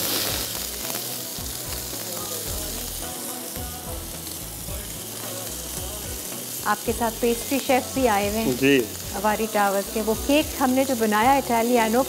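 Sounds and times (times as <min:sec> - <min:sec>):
juice sizzling in frying pan: 0:00.0 - 0:12.0.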